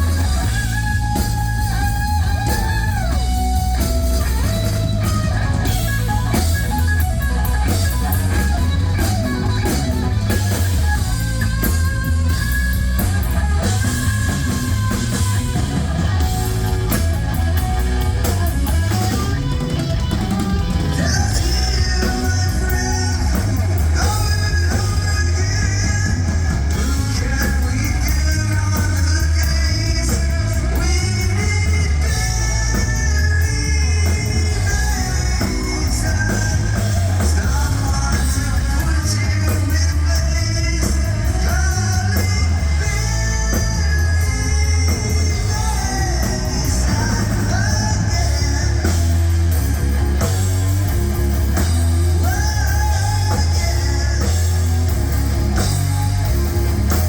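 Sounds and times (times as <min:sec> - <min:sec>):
heavy rock band playing: 0:00.0 - 0:57.0
lead singer vocals: 0:00.0 - 0:57.0.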